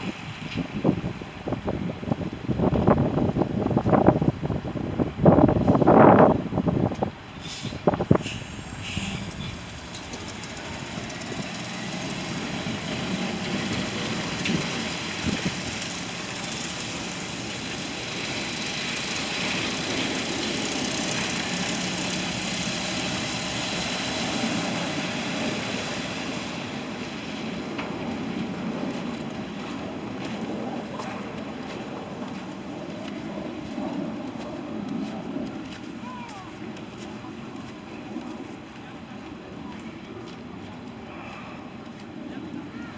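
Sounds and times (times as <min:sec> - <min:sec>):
road noise: 0:00.0 - 0:42.9
vehicles passing: 0:00.0 - 0:42.9.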